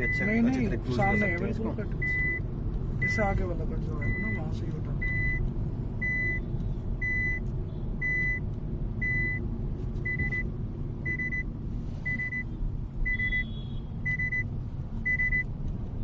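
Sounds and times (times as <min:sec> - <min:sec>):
car warning chime beeps: 0:00.0 - 0:03.4, 0:04.0 - 0:09.4, 0:10.0 - 0:15.5
car low rumble: 0:00.0 - 0:16.0.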